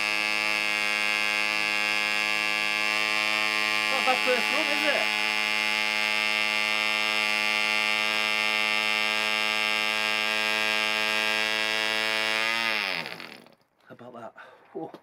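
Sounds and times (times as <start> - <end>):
model engine buzzing: 0.0 - 13.6.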